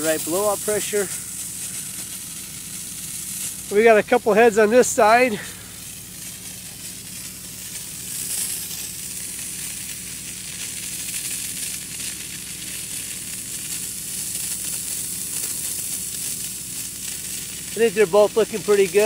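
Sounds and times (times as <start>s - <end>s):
low steady hum: 0.0s - 19.0s
sprinkler heads hissing: 0.0s - 19.0s.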